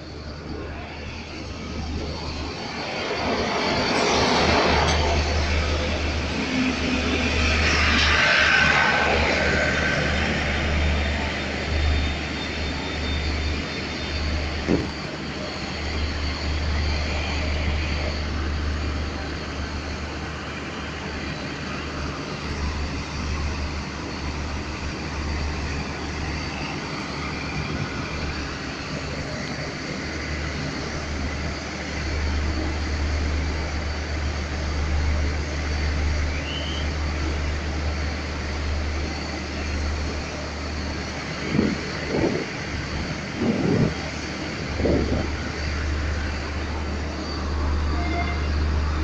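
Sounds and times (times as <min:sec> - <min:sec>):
train engines humming: 0:00.0 - 0:49.0.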